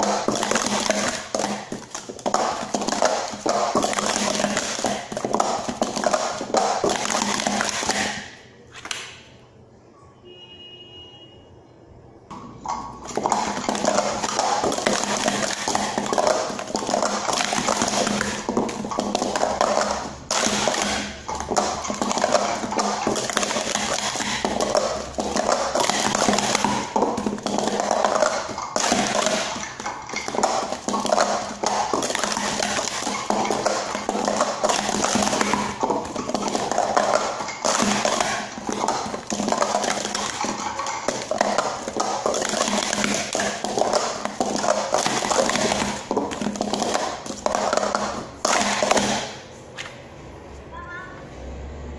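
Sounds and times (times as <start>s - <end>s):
plastic cups clattering: 0.0s - 9.2s, 12.3s - 49.5s.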